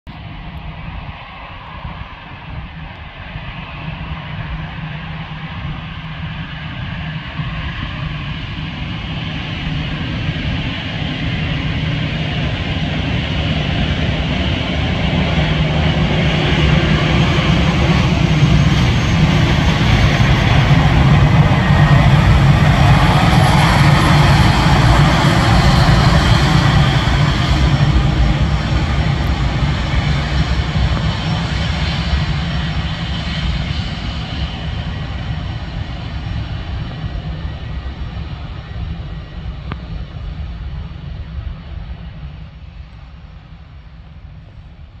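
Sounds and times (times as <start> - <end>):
jet engines rumbling with hiss: 0.2 - 45.0.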